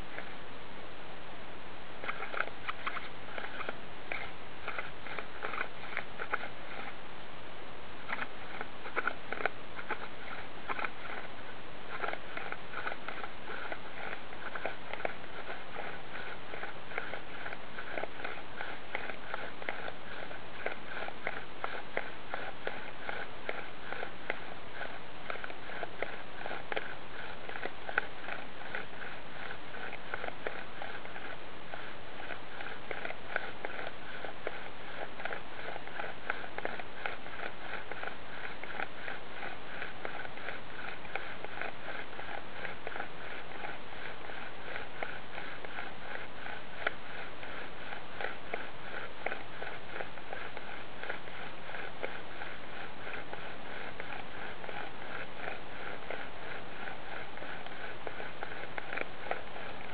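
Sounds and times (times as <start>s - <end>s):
bow drill rasping on wood: 2.0s - 7.0s, 8.0s - 59.9s
small clicks: 2.0s - 7.0s, 8.0s - 52.2s.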